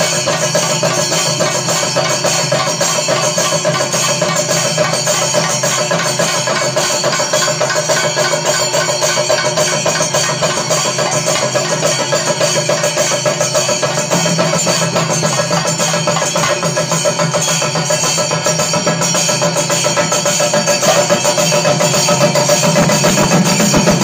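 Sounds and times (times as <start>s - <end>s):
drums keeping the beat: 0.0s - 24.0s
fast drum roll: 0.0s - 24.0s
hand cymbals ringing: 0.0s - 24.0s.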